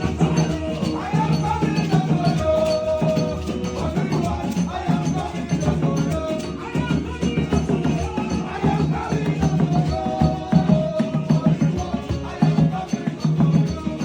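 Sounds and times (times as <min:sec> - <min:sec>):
gospel worship music: 0:00.0 - 0:14.0
rattling shaker percussion: 0:00.0 - 0:14.0.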